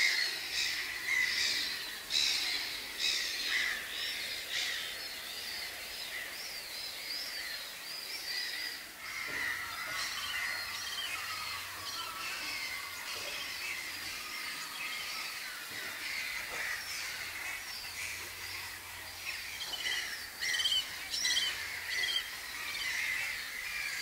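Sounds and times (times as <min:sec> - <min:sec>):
wild birds chirping: 0:00.0 - 0:24.0.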